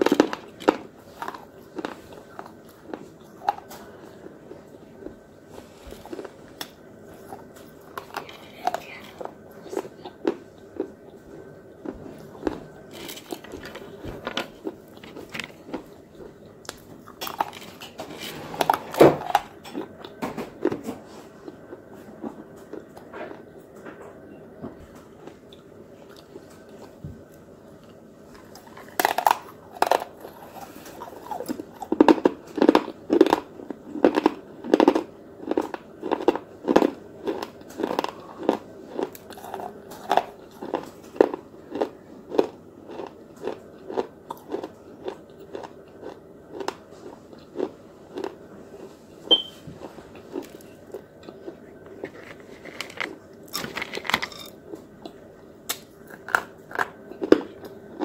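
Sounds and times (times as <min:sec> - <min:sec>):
chewing brittle clay crunching: 0:00.0 - 0:23.5, 0:25.2 - 0:58.0.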